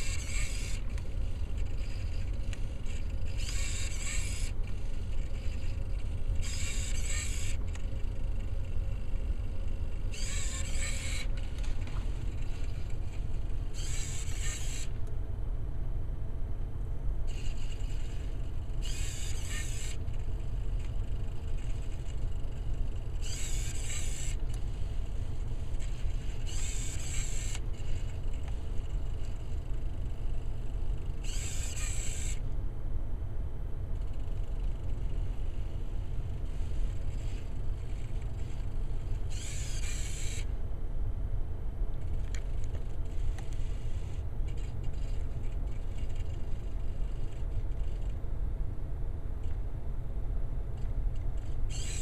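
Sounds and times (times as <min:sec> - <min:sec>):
servos whirring: 0:00.0 - 0:15.2, 0:17.3 - 0:32.6, 0:33.9 - 0:40.6, 0:41.9 - 0:48.2, 0:50.8 - 0:52.0.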